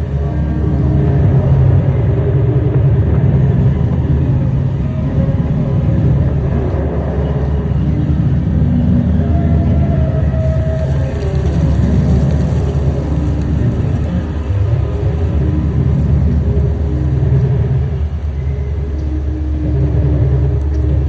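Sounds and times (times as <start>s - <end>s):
ambient electronic music: 0.0s - 21.0s.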